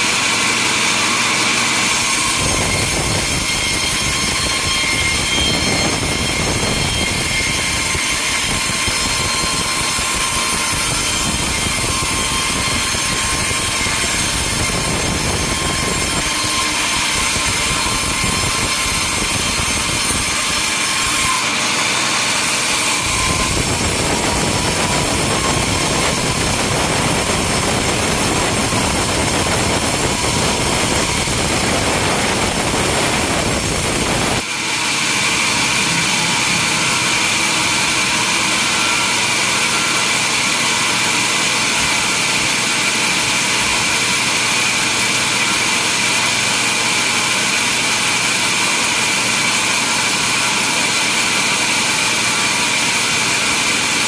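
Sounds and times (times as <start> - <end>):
saw cutting through wood: 0.0 - 54.0
sawmill machinery running: 0.0 - 54.0.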